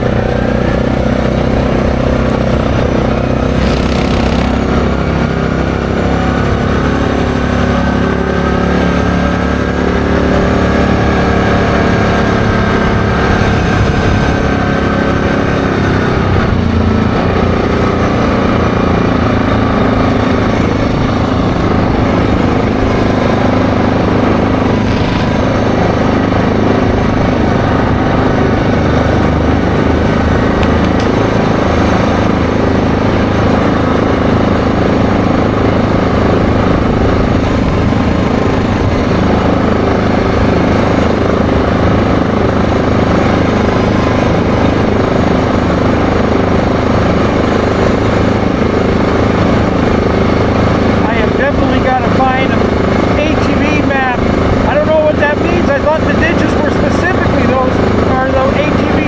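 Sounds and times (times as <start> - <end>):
atv engine running: 0.0 - 59.0
tyre and road noise: 0.0 - 59.0.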